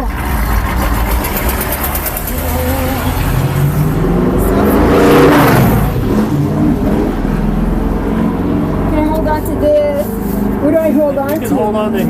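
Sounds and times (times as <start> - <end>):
race car driving past: 0.1 - 12.0.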